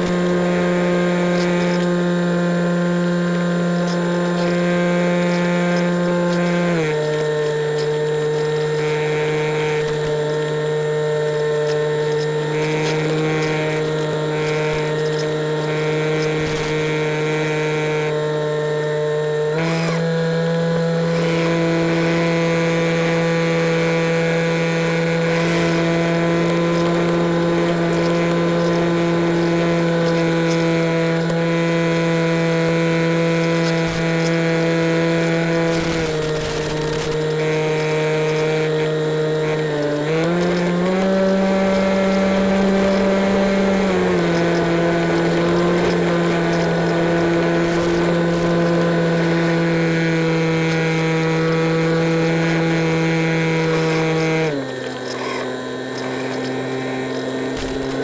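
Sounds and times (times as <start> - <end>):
electric motor and propeller droning: 0.0 - 58.0.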